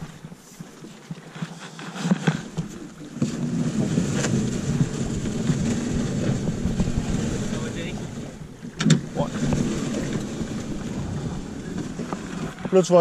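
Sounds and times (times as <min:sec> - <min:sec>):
boat hull scraping over gravel: 0:00.0 - 0:13.0.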